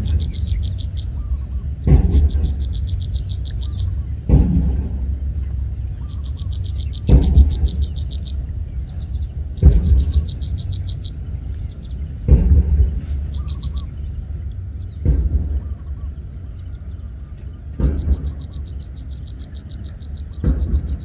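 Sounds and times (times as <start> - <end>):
frog deep call: 0.0 - 11.8, 13.2 - 14.4, 15.5 - 21.0
steady low rumble: 0.0 - 21.0.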